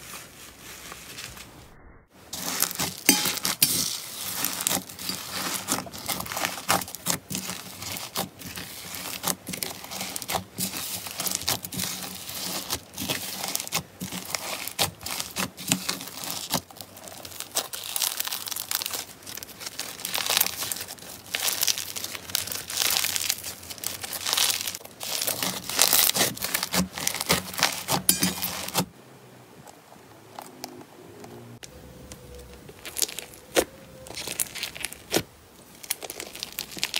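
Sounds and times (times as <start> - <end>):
foam bead slime crackling: 2.3 - 28.9, 32.1 - 36.9.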